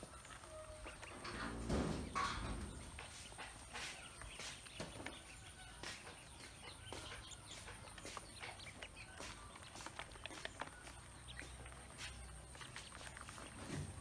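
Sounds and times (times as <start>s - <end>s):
ducklings peeping: 0.0s - 14.0s
bills pecking plastic basin: 0.2s - 14.0s.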